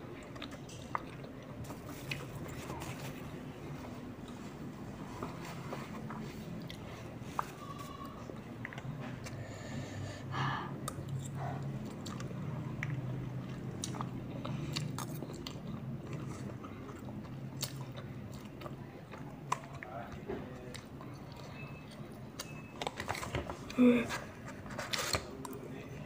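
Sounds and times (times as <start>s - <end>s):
child chewing: 0.0s - 26.0s.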